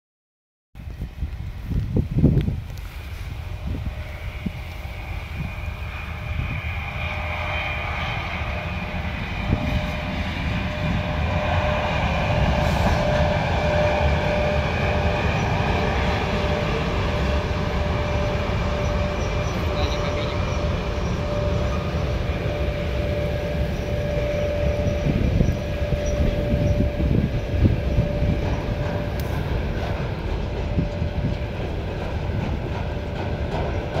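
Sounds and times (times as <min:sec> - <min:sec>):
train wheels rumbling on rails: 0:00.8 - 0:34.0.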